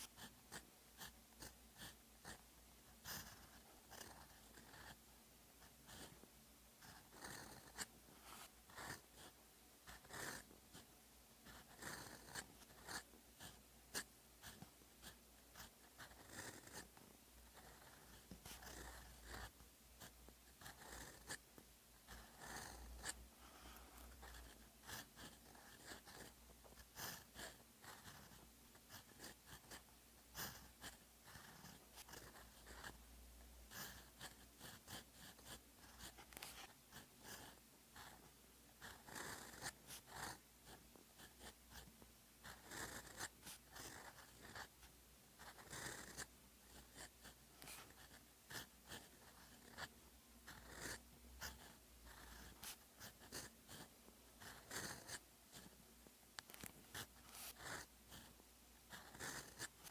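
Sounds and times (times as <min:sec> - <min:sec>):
pen nib scratching paper: 0:00.0 - 0:05.0, 0:05.6 - 0:06.2, 0:06.8 - 0:33.0, 0:33.6 - 0:55.8, 0:56.4 - 0:59.9.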